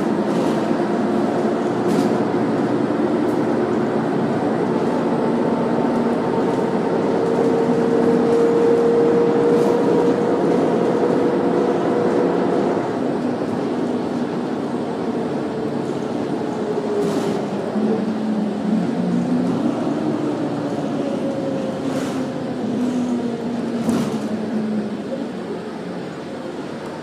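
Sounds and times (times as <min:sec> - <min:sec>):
bus engine running: 0:00.0 - 0:27.0
road noise: 0:00.0 - 0:27.0.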